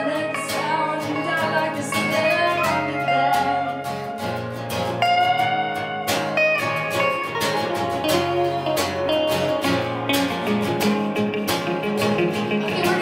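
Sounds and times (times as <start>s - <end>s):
gliding melodic guitar line: 0.0s - 13.0s
live band playing country-pop: 0.0s - 13.0s
strummed guitar chords: 0.0s - 13.0s.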